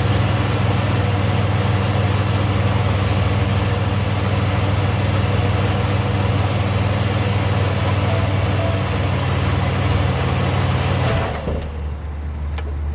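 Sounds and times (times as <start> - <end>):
car engine idling: 0.0 - 11.1.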